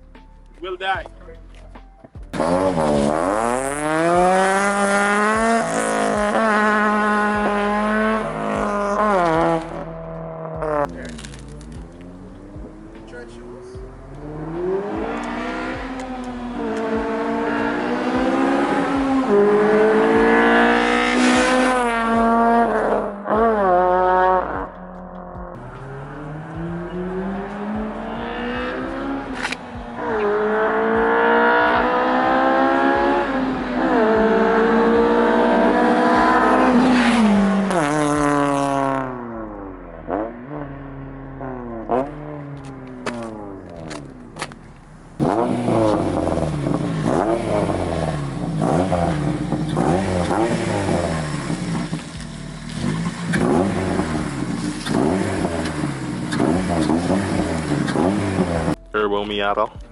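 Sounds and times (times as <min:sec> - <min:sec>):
car engine accelerating: 0:02.3 - 0:59.9.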